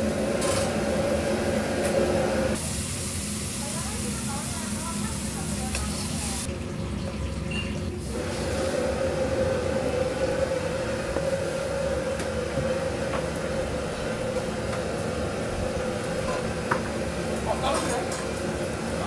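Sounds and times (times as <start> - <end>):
kitchen equipment humming: 0.0 - 19.0.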